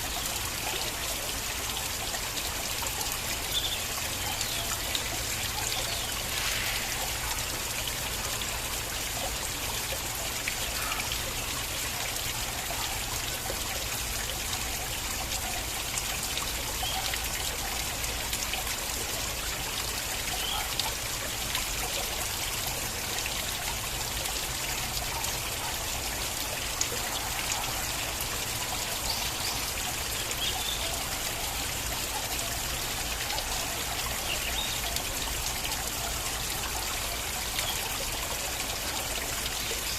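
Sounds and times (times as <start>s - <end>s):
small water splashes: 0.0s - 39.9s
stream trickling: 0.0s - 39.9s.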